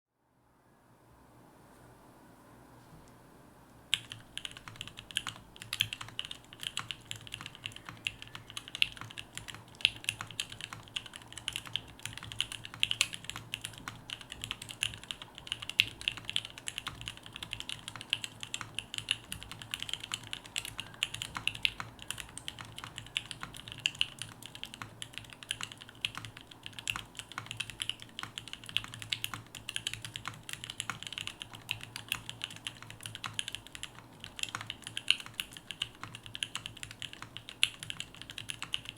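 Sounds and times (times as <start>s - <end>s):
fast mechanical keyboard typing: 3.9s - 38.9s.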